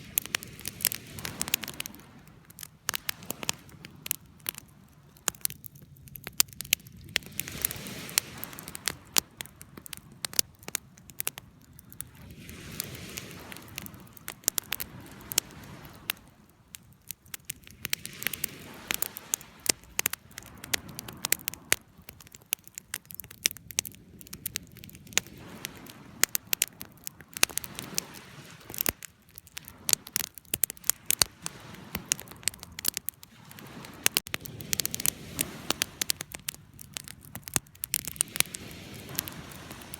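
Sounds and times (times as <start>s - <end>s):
hiss of flames: 0.0s - 5.6s, 6.6s - 16.6s, 17.5s - 22.9s, 23.6s - 39.9s
campfire crackling: 0.0s - 39.9s.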